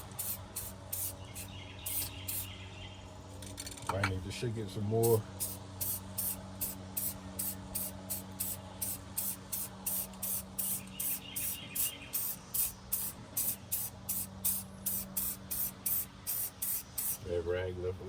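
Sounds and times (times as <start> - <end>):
spray can ball rattling: 0.0 - 2.5, 5.0 - 17.2
steady low hum: 0.0 - 18.0.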